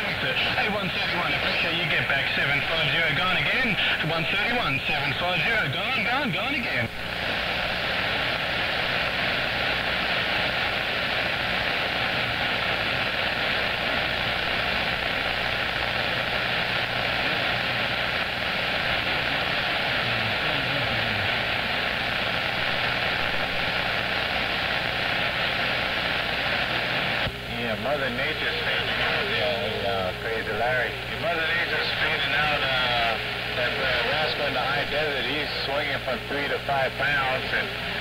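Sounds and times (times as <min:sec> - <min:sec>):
radio static hiss: 0:00.0 - 0:38.0.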